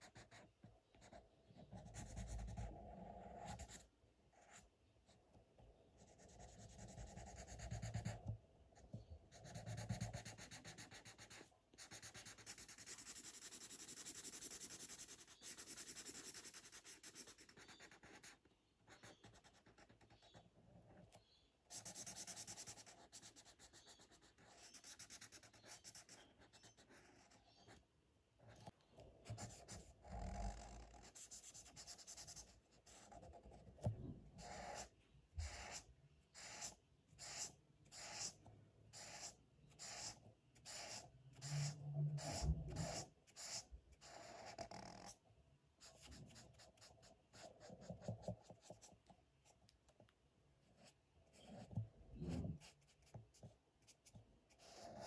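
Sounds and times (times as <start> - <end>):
marker scratching on paper: 0.0 - 4.6, 6.0 - 8.2, 9.3 - 20.4, 21.7 - 27.8, 28.5 - 45.2, 45.8 - 49.6, 50.7 - 55.0.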